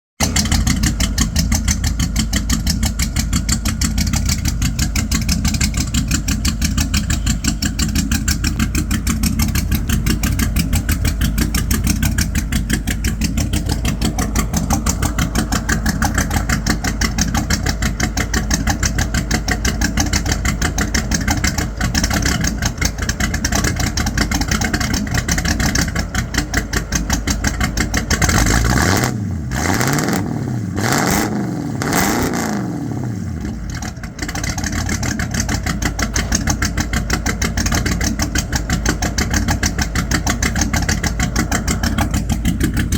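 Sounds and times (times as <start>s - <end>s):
car engine idling: 0.2s - 42.9s.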